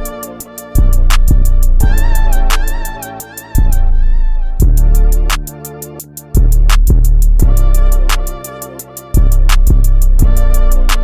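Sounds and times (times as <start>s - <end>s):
music with drum beat and bass: 0.0s - 3.9s, 4.6s - 11.0s.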